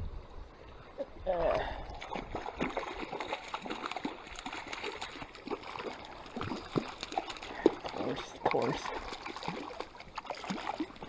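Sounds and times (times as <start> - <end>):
water splashing and trickling: 0.2 - 11.0.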